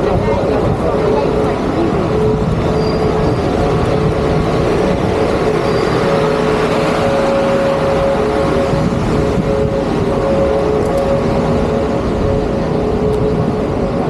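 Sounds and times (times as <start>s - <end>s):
dense rumbling noise: 0.0s - 14.0s
engine humming: 0.0s - 14.0s.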